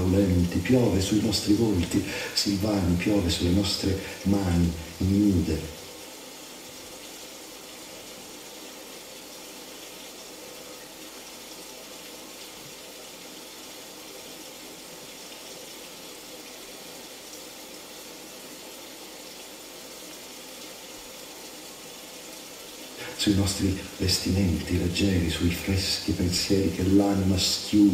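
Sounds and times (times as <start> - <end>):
rain falling: 0.0 - 27.9.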